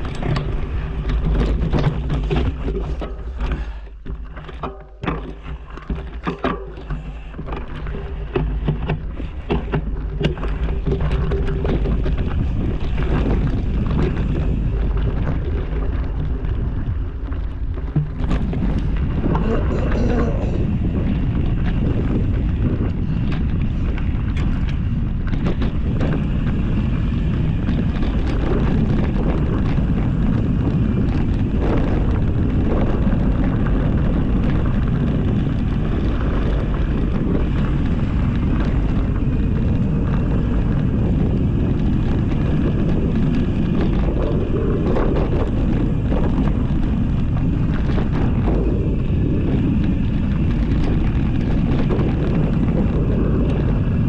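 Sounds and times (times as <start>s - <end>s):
bike clicks and rattles: 0.0s - 54.0s
bike tyre rumble: 0.0s - 54.0s
wind buffeting microphone: 0.0s - 54.0s.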